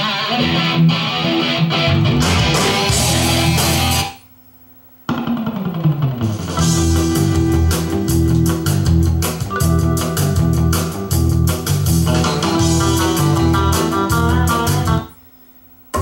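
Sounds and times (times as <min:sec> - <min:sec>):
music with guitar and drums: 0:00.0 - 0:04.3, 0:05.1 - 0:15.2.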